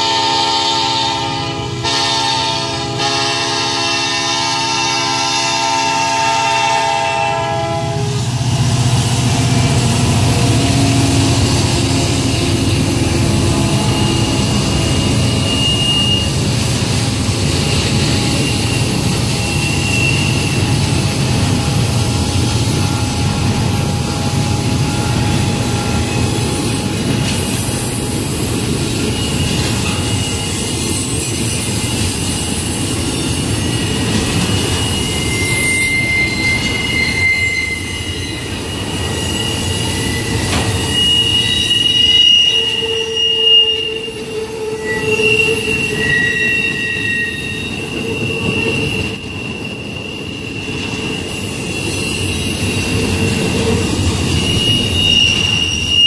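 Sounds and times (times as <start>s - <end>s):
diesel locomotive engine drone: 0.0s - 56.0s
train cars rumbling past: 0.0s - 56.0s
high wheel squeal: 5.6s - 56.0s.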